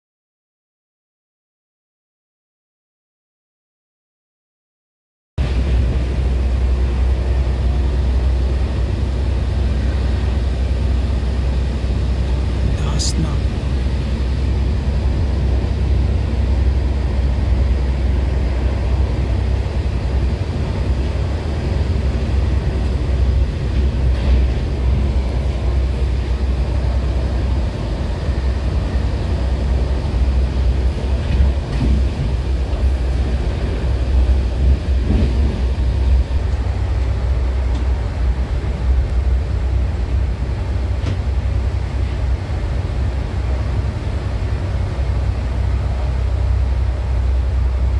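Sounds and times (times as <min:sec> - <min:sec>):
train rumble inside coach: 0:05.4 - 0:47.9.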